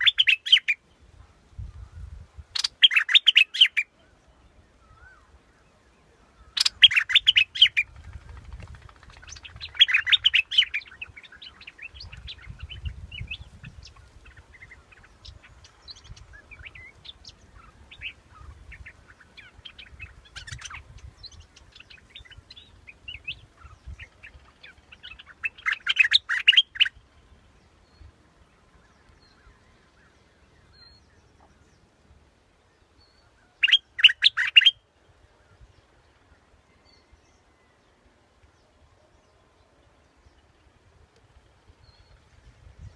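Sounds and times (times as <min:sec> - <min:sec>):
faint bird chirps: 0:00.0 - 0:42.9.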